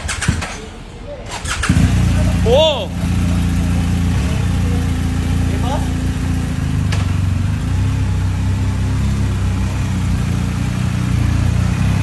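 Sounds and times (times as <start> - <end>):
motorcycle engine running: 1.3 - 12.0.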